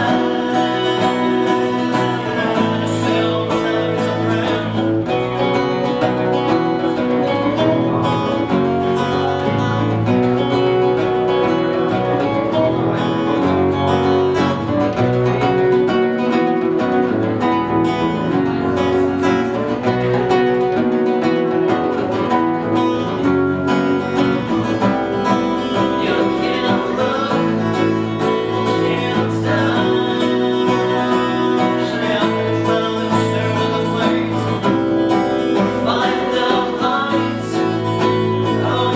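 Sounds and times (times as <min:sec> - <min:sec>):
acoustic guitars strumming: 0:00.0 - 0:38.9
bass guitar line: 0:00.0 - 0:38.9.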